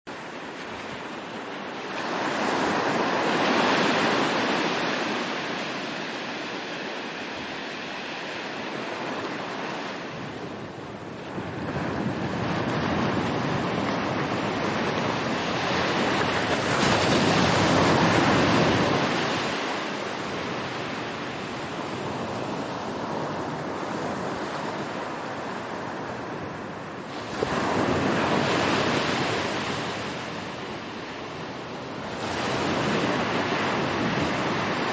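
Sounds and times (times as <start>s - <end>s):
sea waves washing in: 0.1s - 34.9s.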